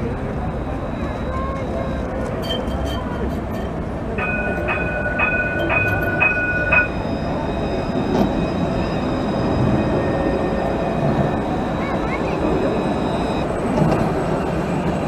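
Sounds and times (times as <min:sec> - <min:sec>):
tram warning bell ringing: 0:00.0 - 0:15.0
tram wheels rumbling on rail: 0:00.0 - 0:15.0.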